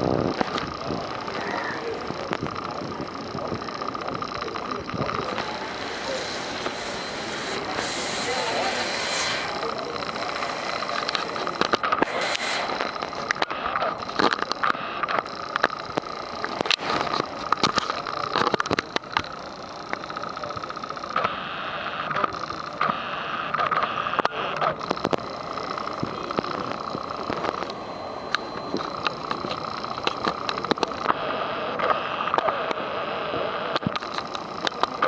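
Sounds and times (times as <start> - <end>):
crowd chatter: 0.0 - 35.0.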